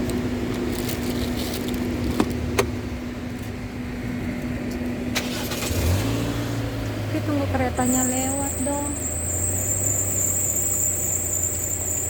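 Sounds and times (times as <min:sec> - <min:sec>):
car interior hum: 0:00.0 - 0:12.0.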